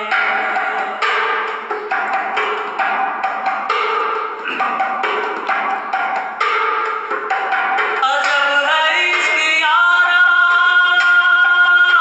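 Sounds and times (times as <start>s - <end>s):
paint buckets played as hand drums: 0.0s - 12.0s.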